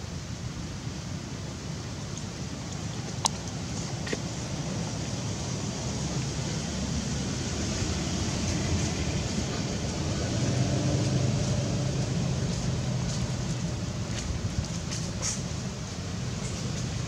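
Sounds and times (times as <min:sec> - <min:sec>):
water: 0:00.0 - 0:17.0
wind: 0:00.0 - 0:17.0
low engine rumble: 0:01.5 - 0:17.0.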